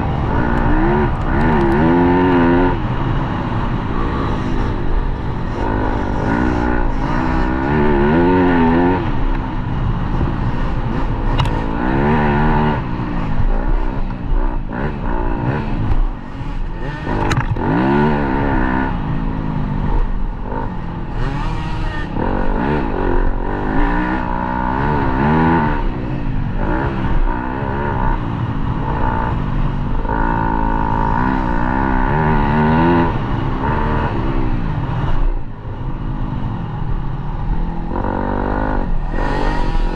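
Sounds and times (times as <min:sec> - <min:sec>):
dirt bike engine revving: 0:00.0 - 0:35.4, 0:37.7 - 0:39.9.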